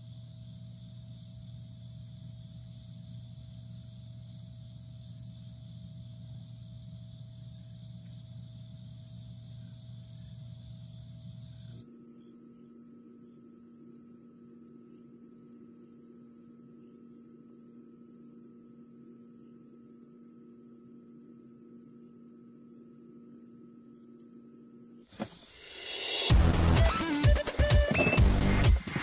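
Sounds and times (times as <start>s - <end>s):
faint steady tonal hum: 0.0s - 25.1s
steady high hiss: 0.0s - 29.0s.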